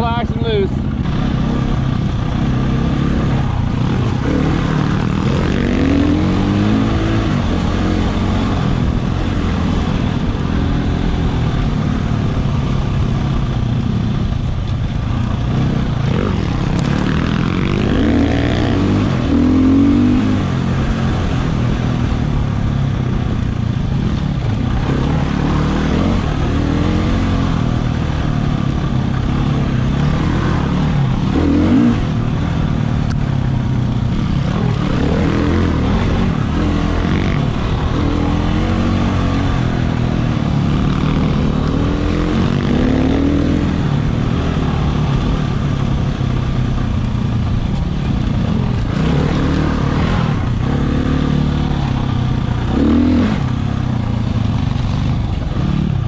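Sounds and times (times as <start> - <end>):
dirt bike engine revving: 0.9 - 47.3, 48.3 - 56.0.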